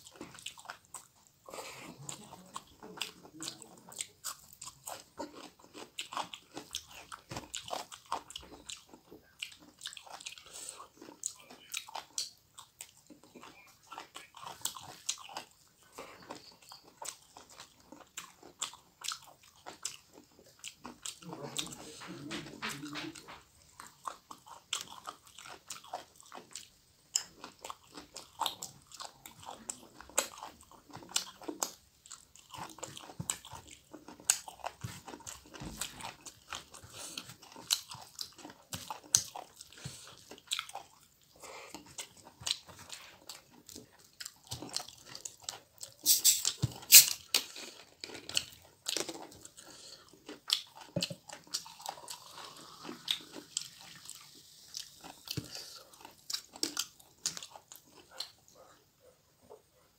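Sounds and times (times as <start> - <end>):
chewing with wet smacking: 0.0 - 59.9.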